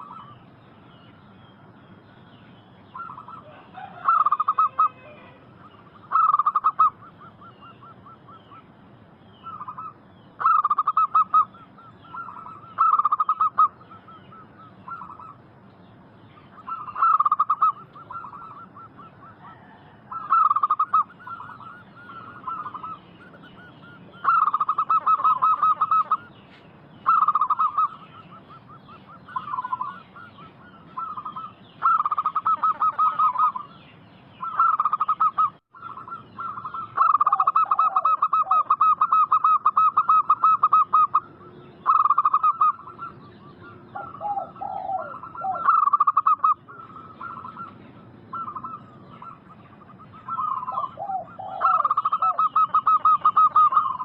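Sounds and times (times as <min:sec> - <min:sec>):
doves cooing: 0:00.0 - 0:00.5, 0:02.9 - 0:15.6, 0:16.4 - 0:54.0.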